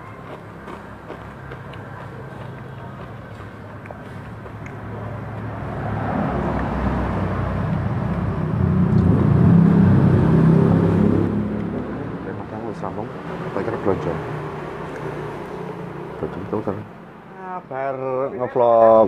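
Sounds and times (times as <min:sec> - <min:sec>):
vehicle engine rumbling past: 0:01.5 - 0:17.1.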